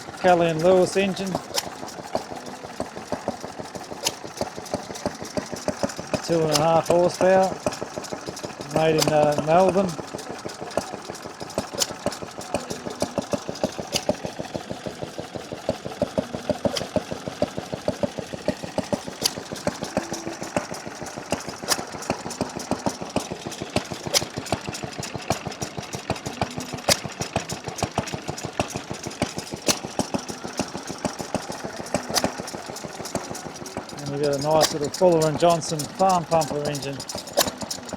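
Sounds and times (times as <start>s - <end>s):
stationary engine running: 0.0s - 37.9s.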